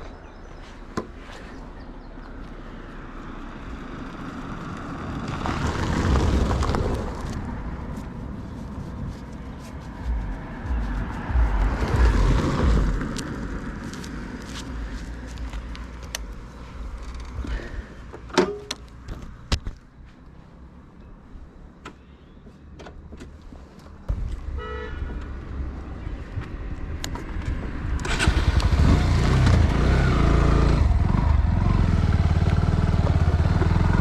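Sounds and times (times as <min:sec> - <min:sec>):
vehicle engine rumble: 0:00.0 - 0:34.0.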